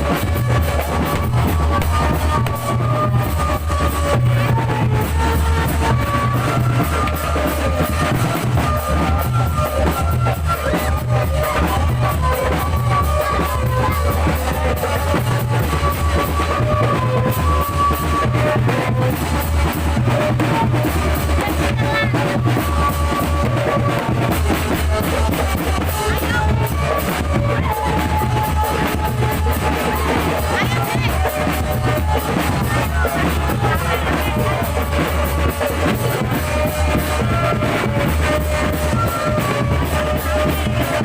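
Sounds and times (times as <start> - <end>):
heavy drums beating: 0.0 - 41.0
held melody line: 0.0 - 41.0.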